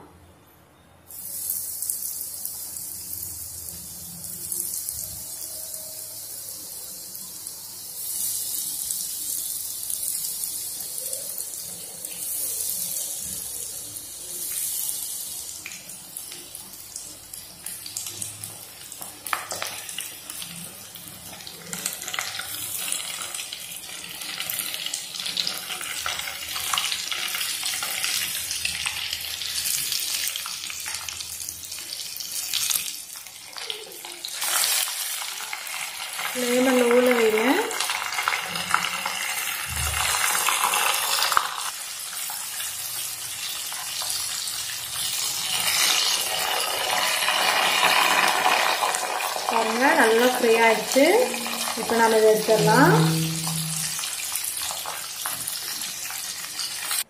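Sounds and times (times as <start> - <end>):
green beans deep-frying in oil: 1.0 - 57.0
oil crackling and popping: 7.7 - 52.5, 53.5 - 57.0.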